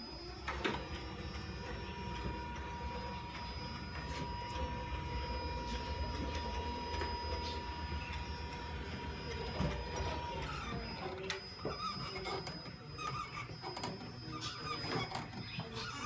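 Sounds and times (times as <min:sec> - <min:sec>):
stairlift motor rumble and whine: 0:00.0 - 0:16.0.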